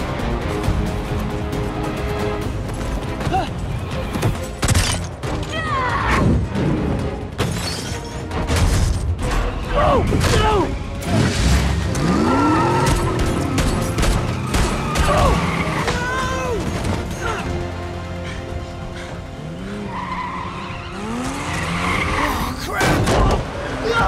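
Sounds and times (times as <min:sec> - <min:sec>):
action film music: 0:00.0 - 0:24.0.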